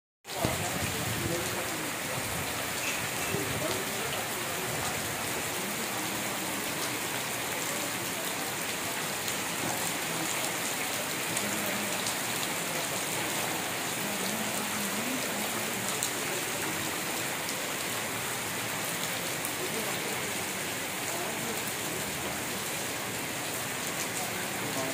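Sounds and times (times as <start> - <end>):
steady rain falling: 0.2 - 24.9.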